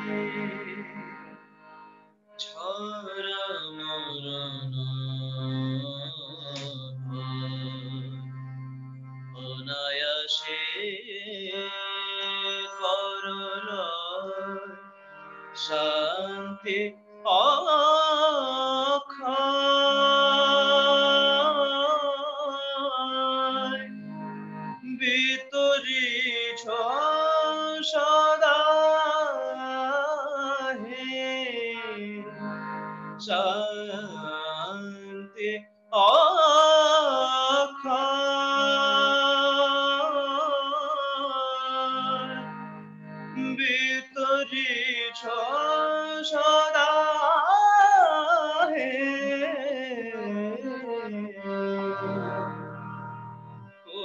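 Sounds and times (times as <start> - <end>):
man singing devotional song: 0.0 - 1.2, 2.4 - 8.4, 9.3 - 52.6.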